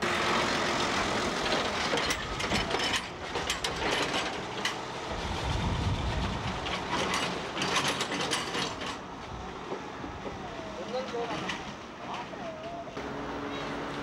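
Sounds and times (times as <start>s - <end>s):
low engine rumble: 0.0s - 14.0s
truck body rattling over rails: 0.1s - 12.4s.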